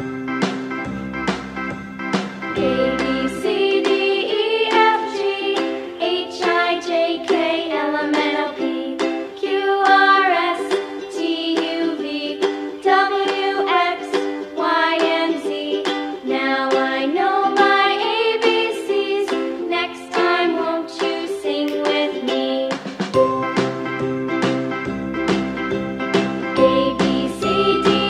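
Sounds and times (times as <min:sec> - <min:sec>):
bright plucked-string tune: 0:02.1 - 0:22.4, 0:23.2 - 0:28.0.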